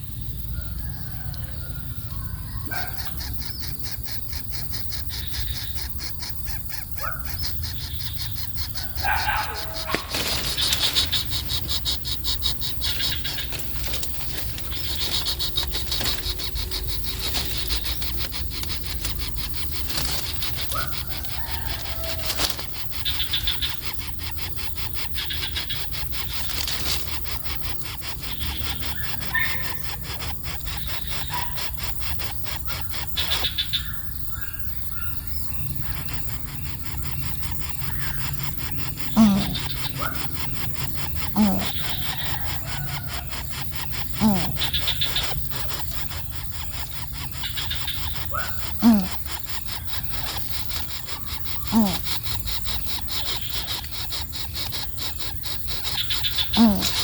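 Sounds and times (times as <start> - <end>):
small birds chirping: 0.0 - 57.0
fast crackling: 5.9 - 33.6, 34.7 - 57.0.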